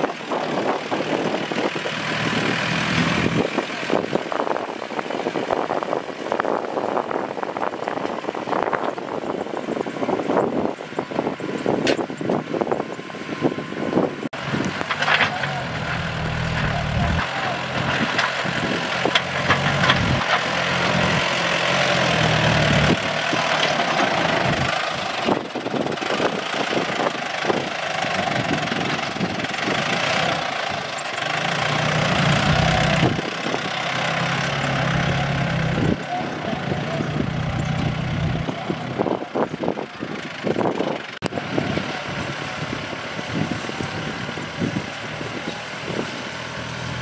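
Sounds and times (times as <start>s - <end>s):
tractor engine droning: 0.0s - 47.0s.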